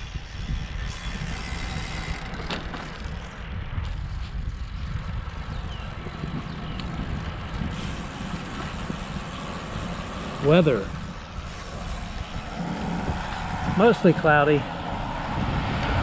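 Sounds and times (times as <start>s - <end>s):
bike tyres rolling on asphalt: 0.0s - 16.0s
wind rumble on microphone: 0.0s - 16.0s.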